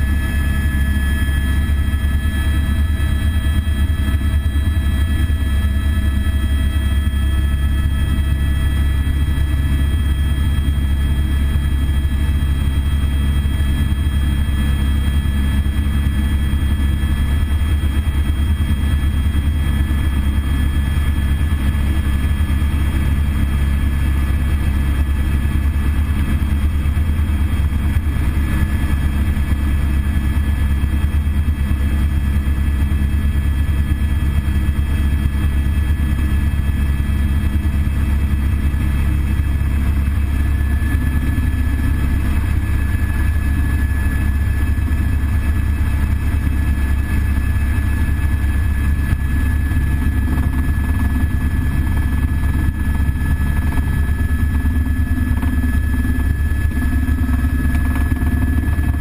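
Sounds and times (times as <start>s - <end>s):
helicopter rotor and engine drone: 0.0s - 59.0s
thin steady whines: 0.0s - 59.0s.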